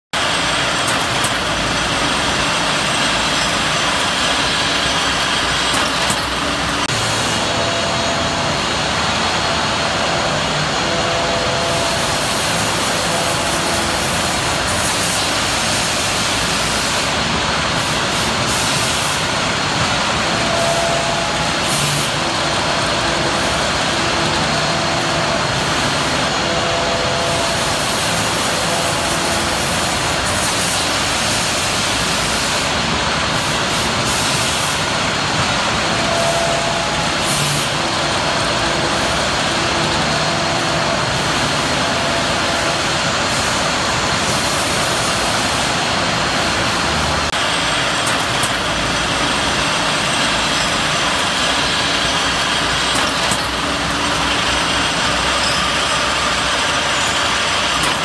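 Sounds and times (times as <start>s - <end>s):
machine tools running: 0.1s - 58.0s.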